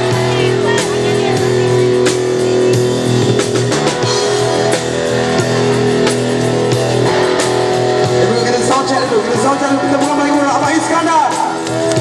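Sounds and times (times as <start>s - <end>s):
electric guitar: 0.0s - 12.0s
live rock band playing: 0.0s - 12.0s.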